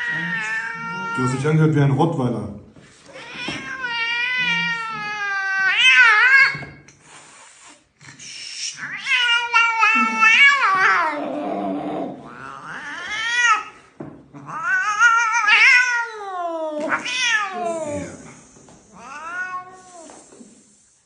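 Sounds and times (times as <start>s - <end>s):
cat growling: 0.0s - 1.5s, 3.1s - 6.7s, 8.0s - 20.7s
cat meowing: 0.0s - 1.6s, 3.1s - 6.8s, 8.7s - 20.4s.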